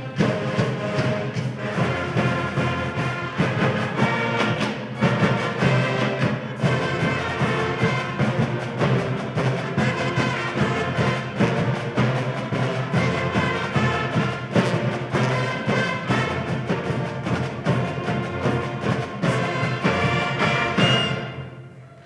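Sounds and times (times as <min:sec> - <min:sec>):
marching band with brass and drums: 0:00.0 - 0:22.0.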